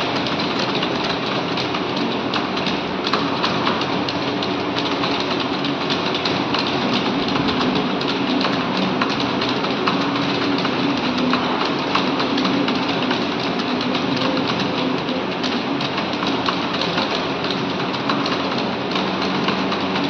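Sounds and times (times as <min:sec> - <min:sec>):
many keyboards typing: 0:00.0 - 0:20.0.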